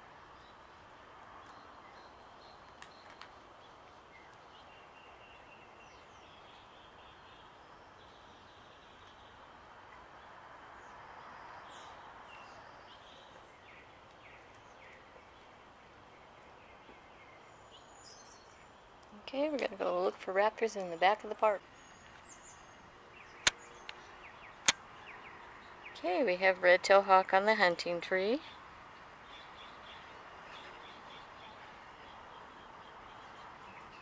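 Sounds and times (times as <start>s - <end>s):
faint outdoor hum: 0.0s - 34.0s.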